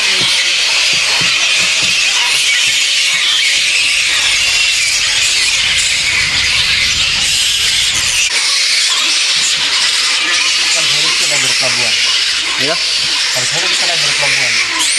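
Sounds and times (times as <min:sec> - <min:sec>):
bats squealing and shrieking: 0:00.0 - 0:14.9.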